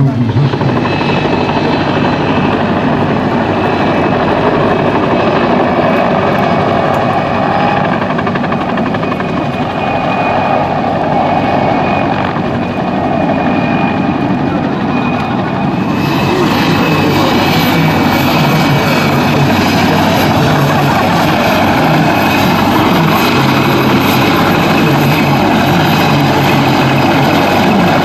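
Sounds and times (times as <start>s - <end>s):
helicopter engines and rotor drone: 0.0s - 28.0s
high turbine whine: 0.0s - 28.0s.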